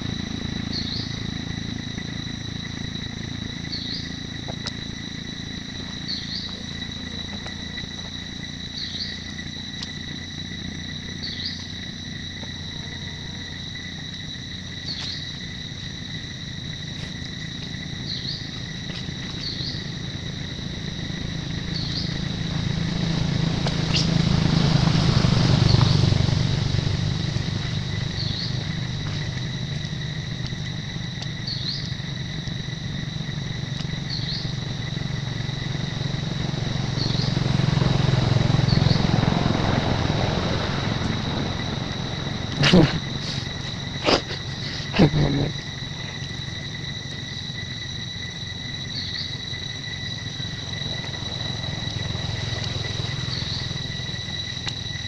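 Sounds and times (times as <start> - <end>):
insect chirps: 0.0 - 55.0
insects droning: 0.0 - 55.0.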